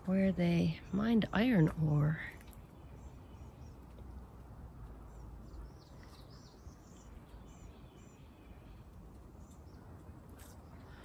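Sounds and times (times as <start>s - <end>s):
faint low outdoor rumble: 0.0s - 11.0s
songbirds chirping: 0.0s - 11.0s.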